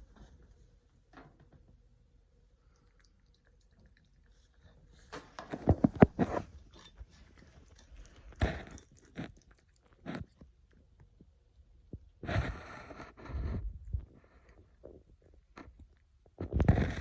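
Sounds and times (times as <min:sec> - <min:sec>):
cats crunching food: 0:02.6 - 0:17.0.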